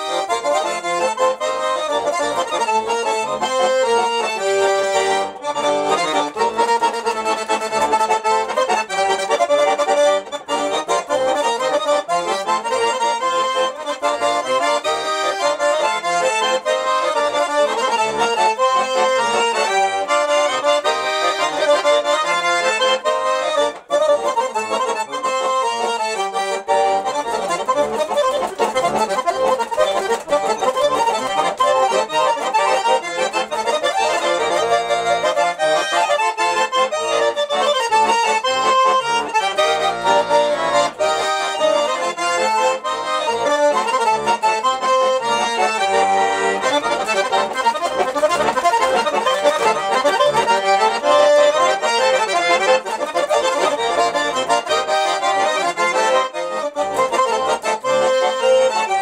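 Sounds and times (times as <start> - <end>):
button accordion playing a tune: 0.0 - 59.0.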